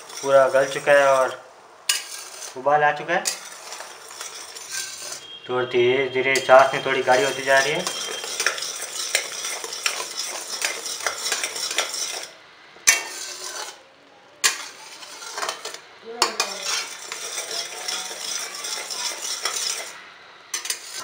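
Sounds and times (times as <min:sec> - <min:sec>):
spoon scraping metal pot: 0:00.0 - 0:02.6, 0:03.2 - 0:05.4, 0:06.1 - 0:13.8, 0:14.4 - 0:21.0.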